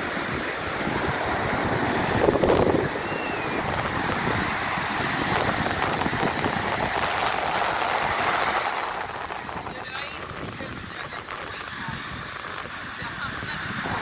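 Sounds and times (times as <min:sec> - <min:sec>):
surf washing up sand: 0:00.0 - 0:14.0
wind on microphone: 0:00.0 - 0:14.0.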